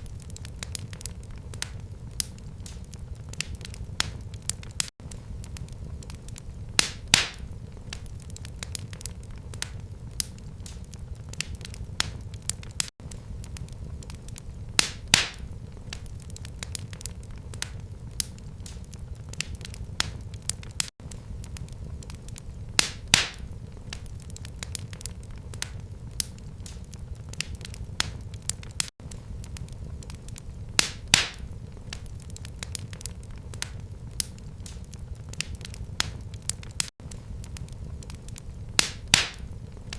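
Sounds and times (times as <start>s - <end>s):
fire popping: 0.0s - 39.9s
low fire rumble: 0.0s - 39.9s
wood fire crackling: 0.0s - 39.9s.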